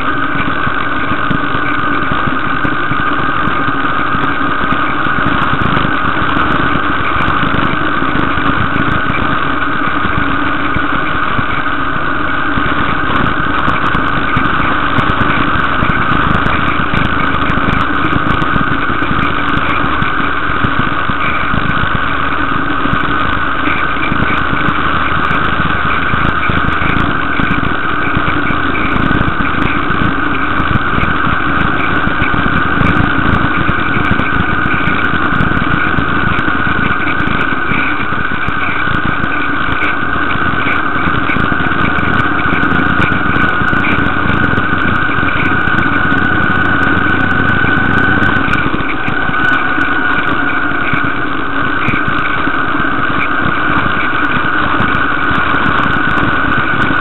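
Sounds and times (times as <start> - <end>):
fluttering low rumble: 0.0 - 57.0
vehicle engine and road noise: 0.0 - 57.0.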